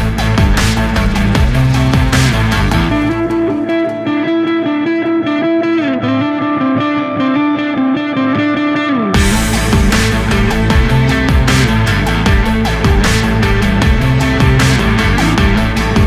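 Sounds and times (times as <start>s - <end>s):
sustained pitched instrument lines: 0.0s - 7.4s, 9.2s - 16.0s
background music with beat: 0.0s - 16.0s.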